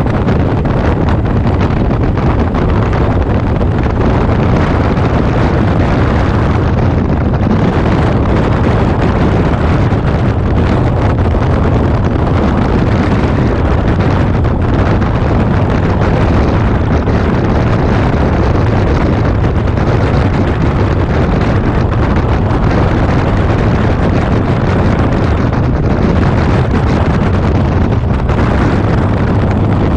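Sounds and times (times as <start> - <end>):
motorcycle engine running: 0.0 - 29.9
road noise: 0.0 - 29.9
wind buffeting microphone: 0.0 - 29.9.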